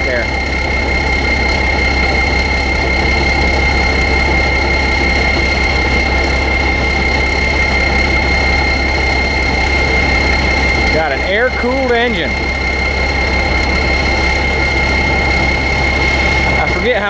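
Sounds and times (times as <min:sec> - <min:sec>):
diesel engine running: 0:00.0 - 0:17.0
high-pitched whine: 0:00.0 - 0:17.0.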